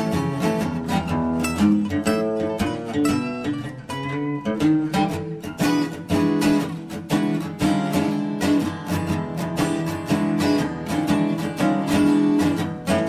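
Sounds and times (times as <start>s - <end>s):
acoustic guitar strumming and picking: 0.0s - 13.0s.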